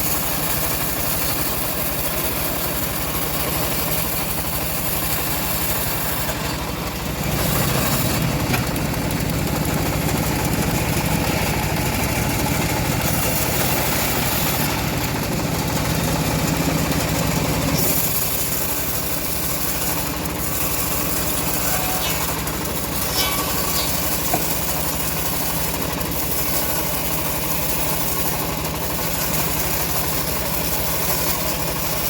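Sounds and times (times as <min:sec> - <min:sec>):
engine-driven bandsaw mill running: 0:00.0 - 0:32.0.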